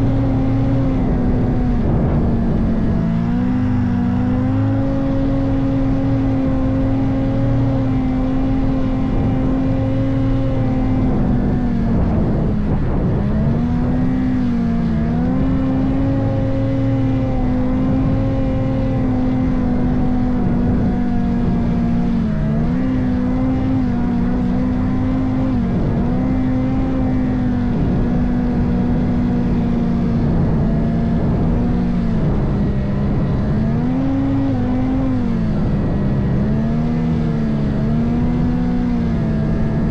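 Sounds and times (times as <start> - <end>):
snowmobile engine at high revs: 0.0 - 39.9.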